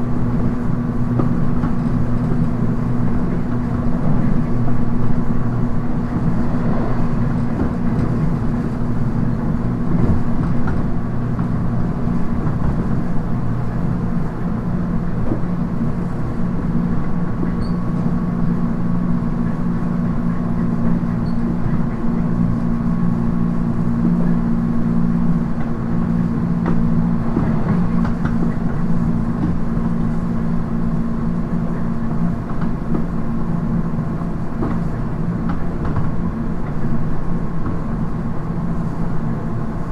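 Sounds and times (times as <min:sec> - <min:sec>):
wheels rumbling on rails: 0:00.0 - 0:39.9.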